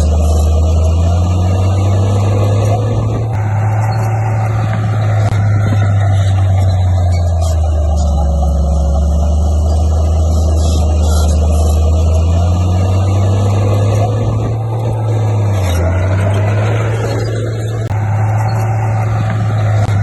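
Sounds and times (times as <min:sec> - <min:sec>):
bulldozer diesel engine: 0:00.0 - 0:20.0.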